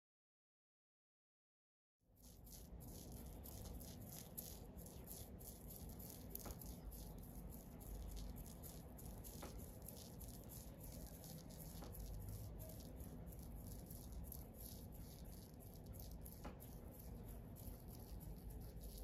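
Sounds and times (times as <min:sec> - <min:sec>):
grit rattling and pattering: 0:02.2 - 0:19.0.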